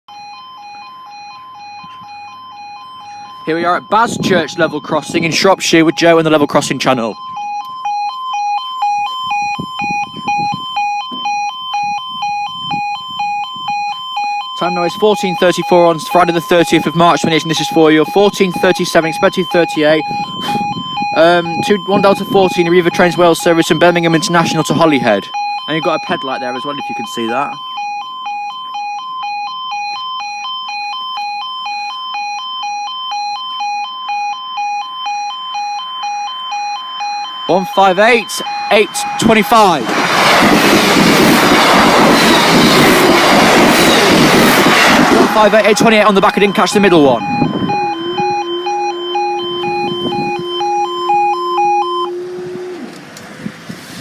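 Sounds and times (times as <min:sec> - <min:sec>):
two-tone crossing alarm: 0:00.1 - 0:53.7.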